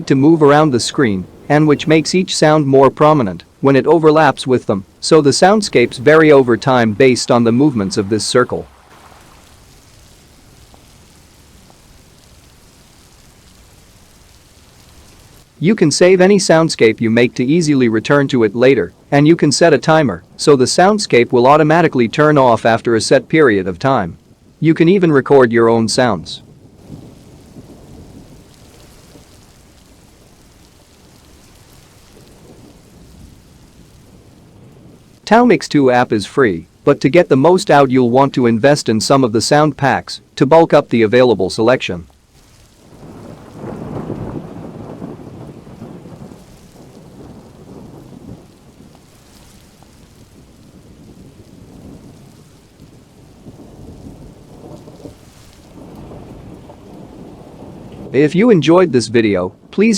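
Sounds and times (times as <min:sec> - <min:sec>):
low rumble of thunder: 0:00.0 - 0:24.7, 0:25.8 - 0:40.9, 0:41.5 - 0:58.3, 0:59.2 - 0:59.8
steady rain: 0:00.0 - 0:59.9.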